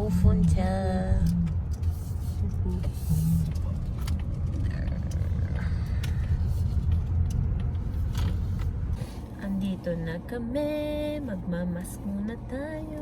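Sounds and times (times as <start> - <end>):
car cabin engine and road noise: 0.0 - 13.0.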